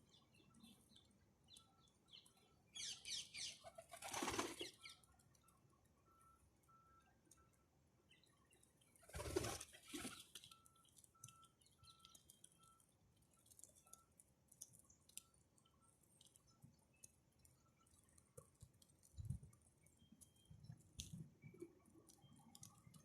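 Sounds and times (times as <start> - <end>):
soft clicks and ticks: 0.3 - 2.5, 4.9 - 9.0, 10.2 - 23.0.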